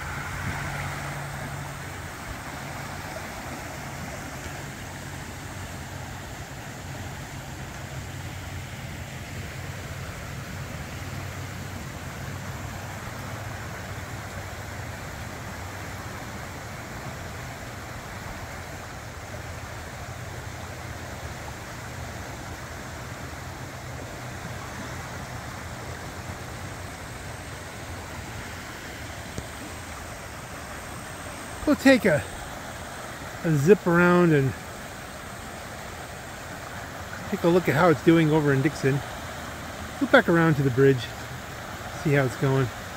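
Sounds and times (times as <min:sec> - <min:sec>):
river rushing: 0:00.0 - 0:42.9.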